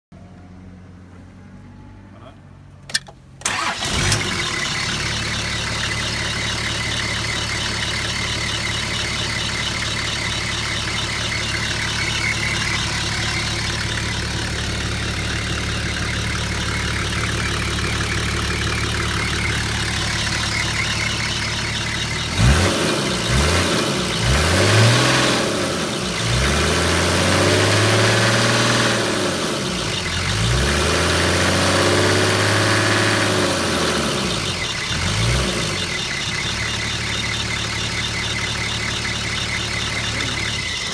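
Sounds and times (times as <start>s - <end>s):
diesel engine idling and revving: 0.1s - 40.9s.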